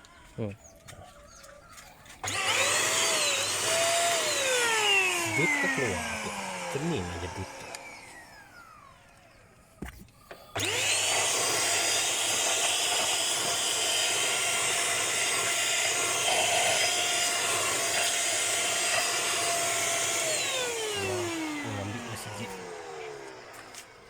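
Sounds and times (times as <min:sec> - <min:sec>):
vacuum cleaner motor whine: 0:02.1 - 0:24.0.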